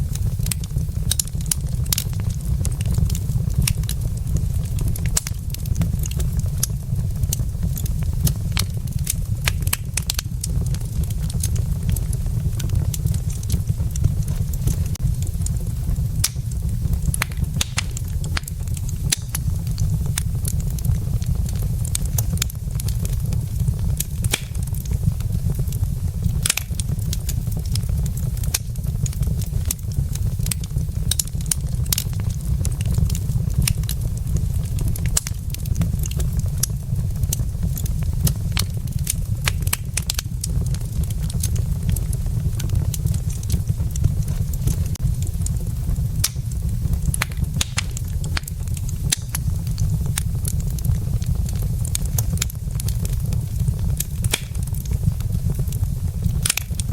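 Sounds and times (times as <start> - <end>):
fire crackling and popping: 0.0 - 56.9
fire low rumble: 0.0 - 56.9.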